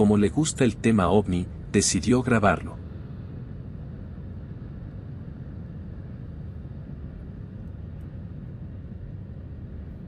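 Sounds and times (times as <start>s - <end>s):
jet airliner cabin rumble: 0.0s - 10.0s.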